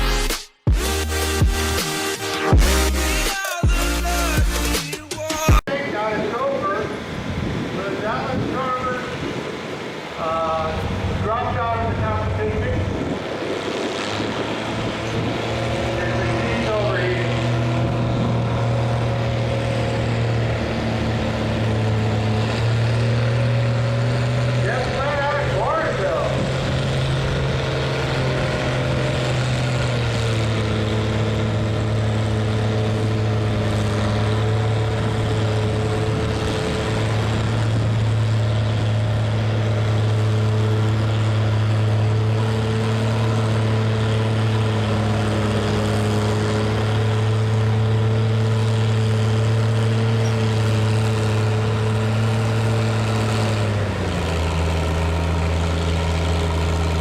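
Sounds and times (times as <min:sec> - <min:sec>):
tractor engine at high revs: 0:00.0 - 0:57.0.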